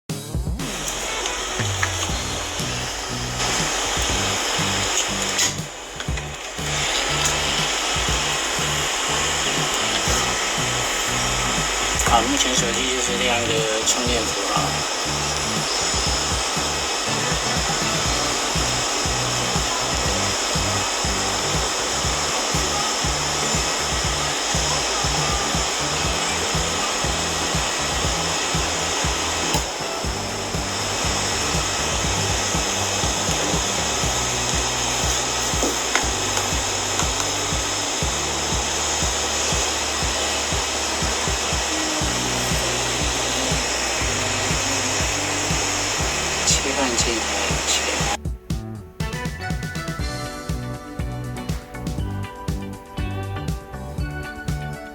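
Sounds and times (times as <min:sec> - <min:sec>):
background music with bass: 0:00.1 - 0:54.9
loud rush of air from blower: 0:00.6 - 0:48.2.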